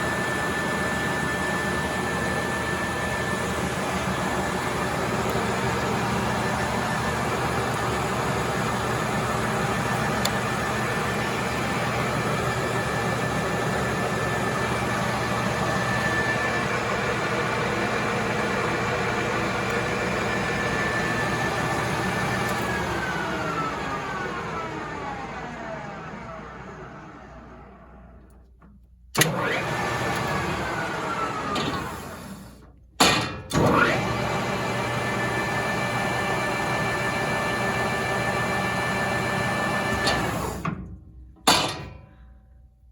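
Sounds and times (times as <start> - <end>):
lathe hum and gear whine: 0.0 - 28.2, 29.2 - 32.6, 33.5 - 40.6.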